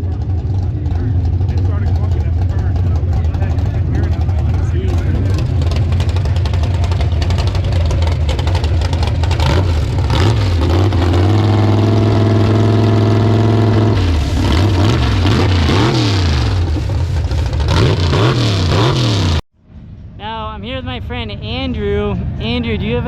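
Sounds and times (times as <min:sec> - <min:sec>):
truck engines revving loud: 0:00.0 - 0:19.4.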